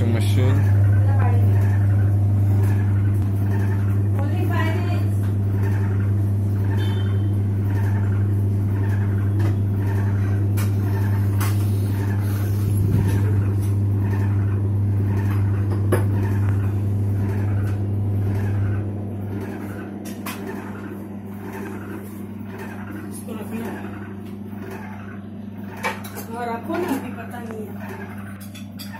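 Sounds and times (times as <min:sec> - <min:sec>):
washing machine motor hum: 0:00.0 - 0:28.9.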